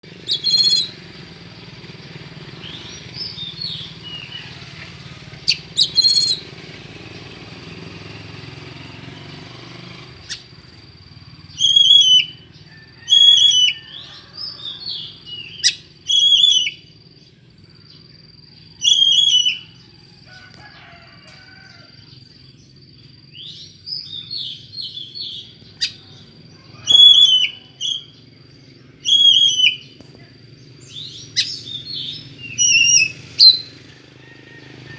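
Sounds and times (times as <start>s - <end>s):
bird calls bending up and down: 0.0s - 1.2s, 2.5s - 7.0s, 9.2s - 17.0s, 18.6s - 34.9s
soft bird chirps: 0.0s - 1.6s, 2.4s - 6.9s, 10.0s - 34.9s.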